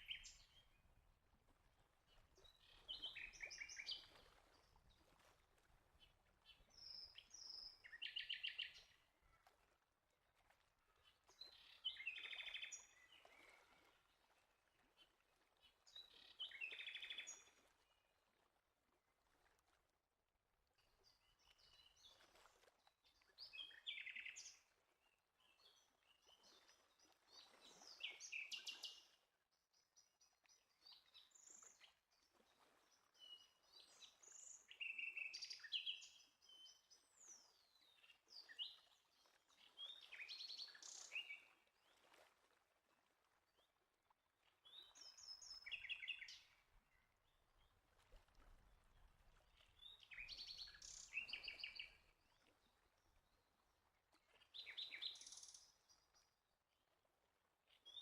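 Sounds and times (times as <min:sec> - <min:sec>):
faint birdsong chirps and trills: 0:00.0 - 0:01.0, 0:01.6 - 0:09.6, 0:10.4 - 0:18.0, 0:20.8 - 0:42.3, 0:44.4 - 0:57.0, 0:57.7 - 0:58.0.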